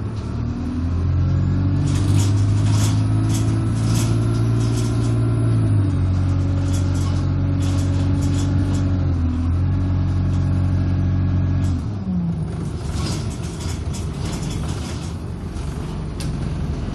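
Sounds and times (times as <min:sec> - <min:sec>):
bus engine droning: 0:00.0 - 0:16.9.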